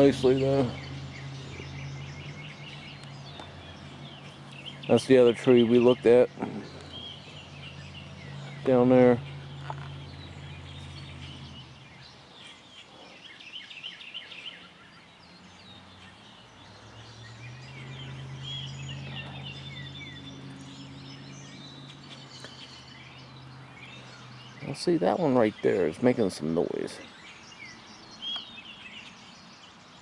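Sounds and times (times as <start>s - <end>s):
bird chirps and calls: 0.0s - 30.0s.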